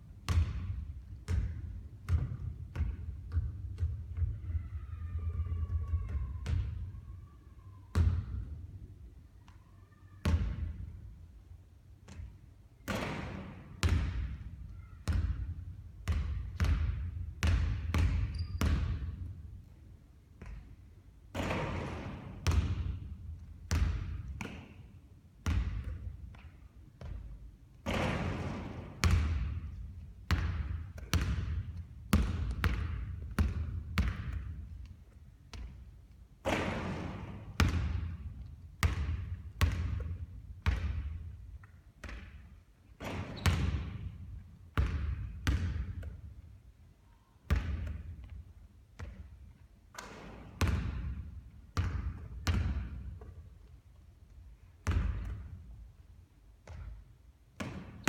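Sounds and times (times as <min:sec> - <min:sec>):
basketball bouncing on hard court: 0:00.2 - 0:04.6, 0:05.2 - 0:06.8, 0:07.9 - 0:08.6, 0:12.0 - 0:19.4, 0:20.4 - 0:24.8, 0:25.4 - 0:46.5, 0:47.5 - 0:53.5, 0:54.8 - 0:55.9, 0:56.6 - 0:58.0.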